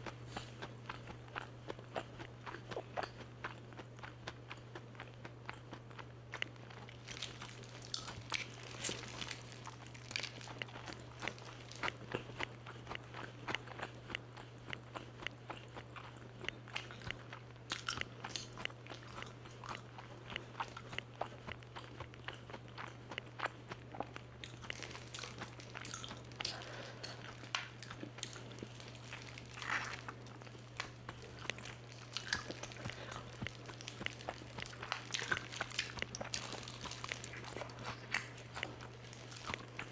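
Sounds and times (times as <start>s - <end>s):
crunching of fried chicken being chewed: 0.0s - 39.9s.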